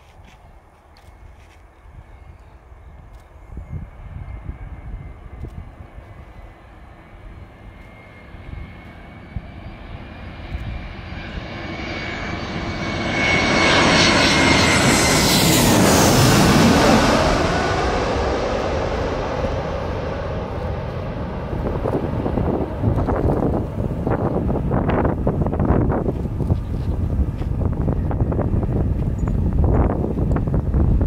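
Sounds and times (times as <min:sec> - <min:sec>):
jet airliner passing overhead: 0:00.0 - 0:31.0
jet engine whine: 0:00.1 - 0:31.0.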